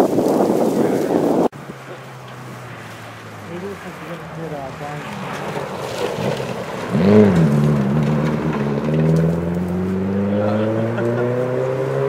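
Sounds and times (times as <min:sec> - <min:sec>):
rally car engine revving: 0:01.6 - 0:12.0.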